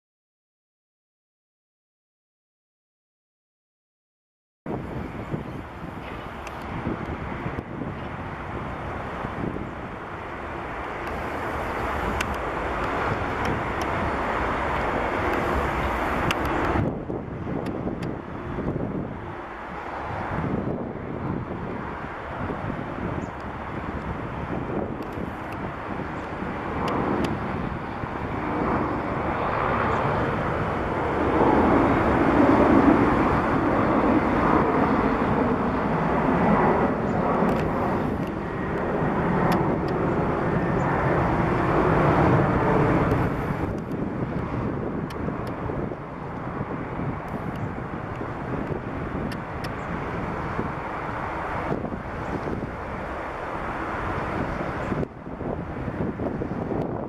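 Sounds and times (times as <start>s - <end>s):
jet airliner engines roaring: 4.7s - 57.0s.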